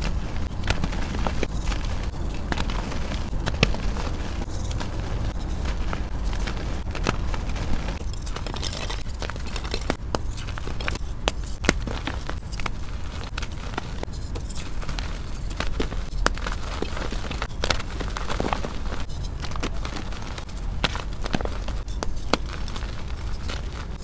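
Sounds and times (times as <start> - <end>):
chalk block cracking: 0.0 - 24.0
chalk crumbling in hands: 0.0 - 24.0.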